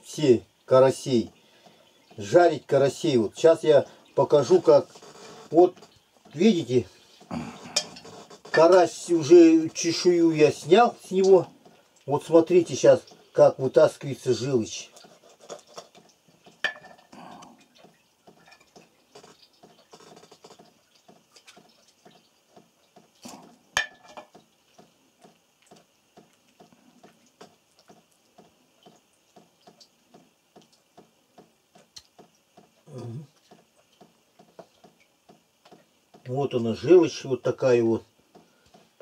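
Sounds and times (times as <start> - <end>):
faint steady ticking: 0.0 - 39.0.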